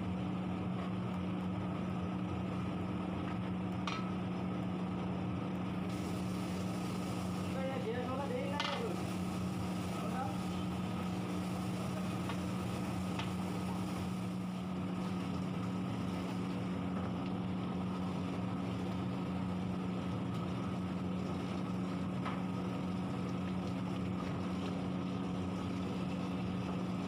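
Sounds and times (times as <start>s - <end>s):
kitchen machinery drone: 0.0s - 27.0s.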